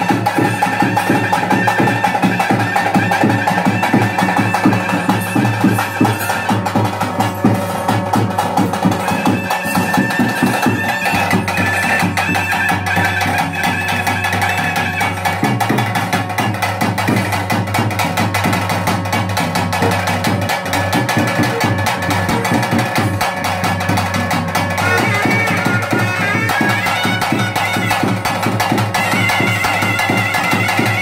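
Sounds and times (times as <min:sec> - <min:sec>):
reed pipe melody: 0:00.0 - 0:16.5, 0:19.7 - 0:31.0
clicking percussion: 0:00.0 - 0:31.0
fast drumming: 0:00.0 - 0:31.0.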